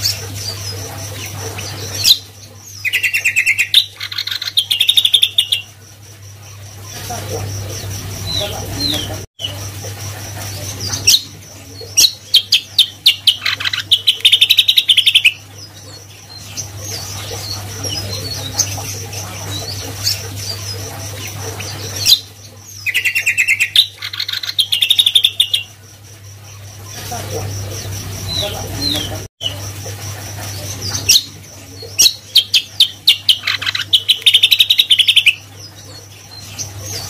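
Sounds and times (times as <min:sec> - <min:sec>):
bird chirps: 0:00.0 - 0:05.8, 0:10.5 - 0:29.7, 0:30.6 - 0:37.0
songbird chattering song: 0:00.0 - 0:09.6, 0:10.4 - 0:29.8, 0:30.4 - 0:37.0.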